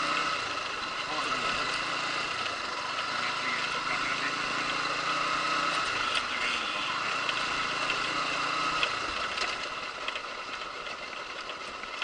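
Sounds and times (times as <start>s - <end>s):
small vehicle engine running: 0.0s - 12.0s.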